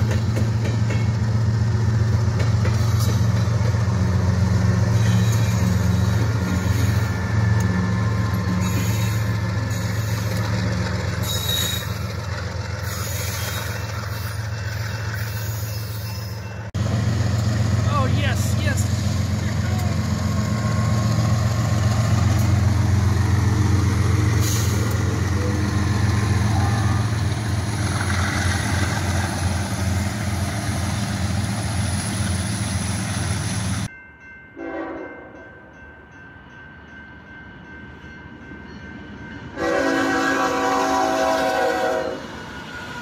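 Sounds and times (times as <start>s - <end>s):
diesel locomotive engine drone: 0.0s - 43.0s
rumble of freight cars: 0.0s - 43.0s.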